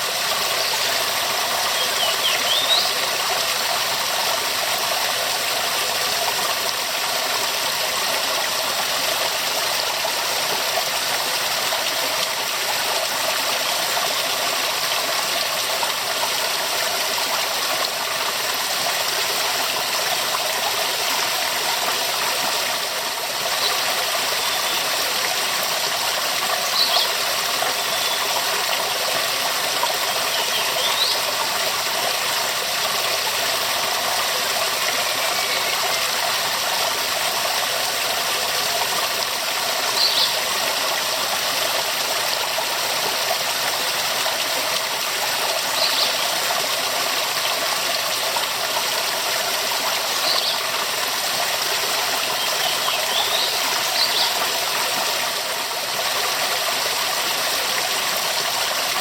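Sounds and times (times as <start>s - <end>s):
waterfall rushing: 0.0s - 5.2s, 15.5s - 58.1s.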